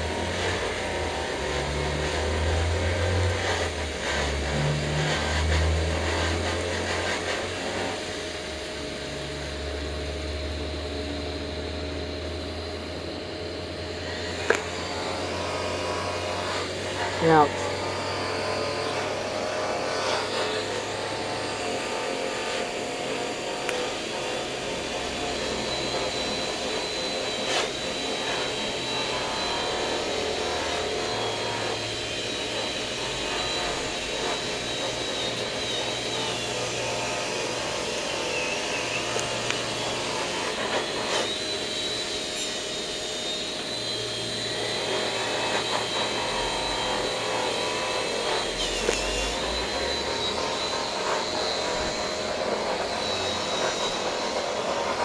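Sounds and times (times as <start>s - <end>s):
welding arc hissing and whining: 0.0s - 55.0s.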